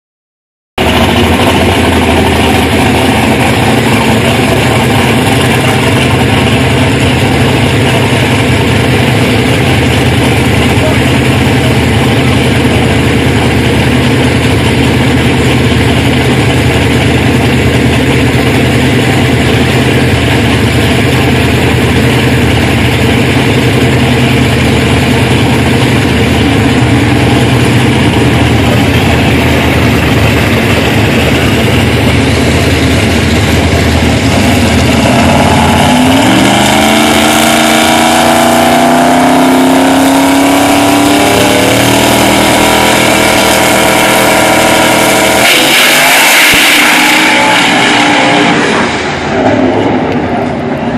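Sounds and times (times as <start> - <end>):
truck engine idling and revving: 0.8 - 50.9.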